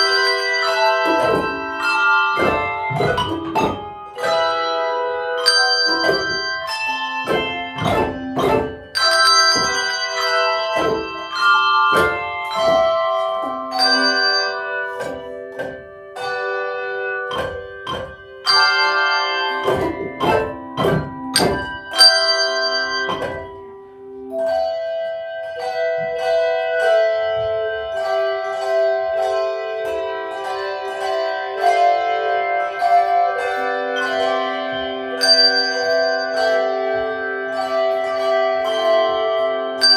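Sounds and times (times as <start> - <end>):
handbell choir playing: 0.0 - 39.9.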